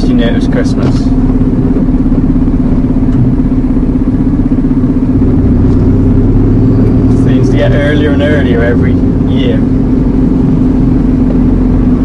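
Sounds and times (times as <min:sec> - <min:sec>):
deeper hum: 0:00.0 - 0:12.0
diesel lorry engine running: 0:00.0 - 0:12.0.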